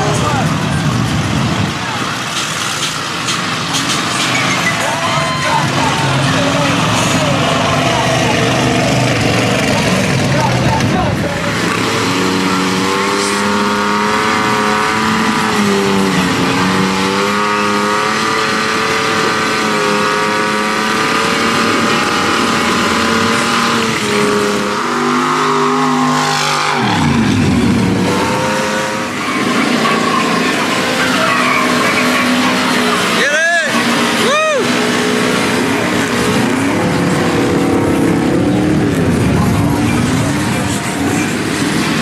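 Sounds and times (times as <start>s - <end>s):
truck engines revving high: 0.0s - 42.0s.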